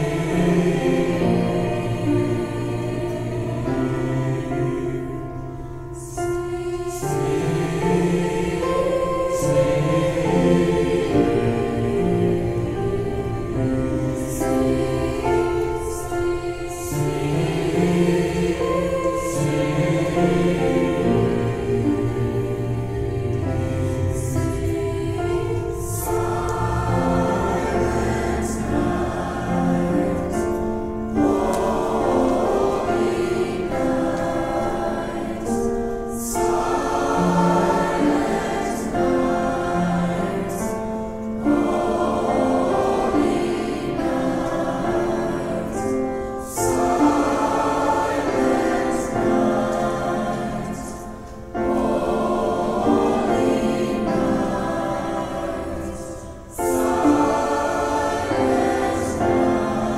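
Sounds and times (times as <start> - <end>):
choir singing a carol: 0.0 - 59.9.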